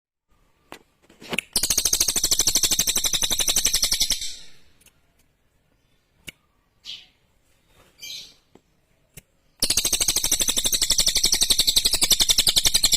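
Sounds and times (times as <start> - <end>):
songbird chirps and trill: 0.3 - 12.9.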